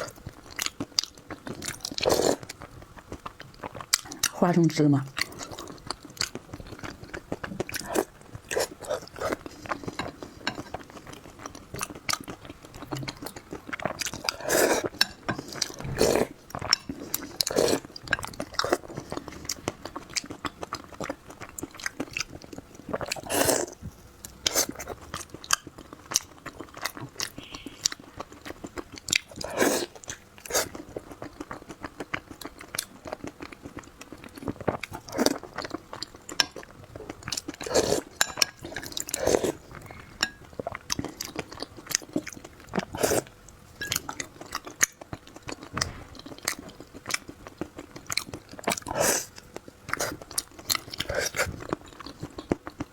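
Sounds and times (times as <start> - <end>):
person chewing food: 0.0 - 4.4, 5.1 - 52.9.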